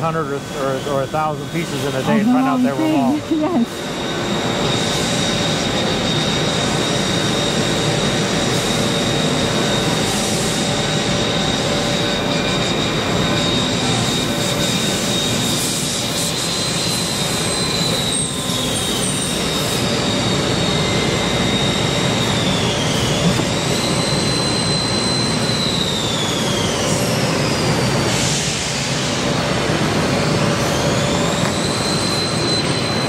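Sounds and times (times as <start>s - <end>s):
high motor whine: 0.0s - 33.0s.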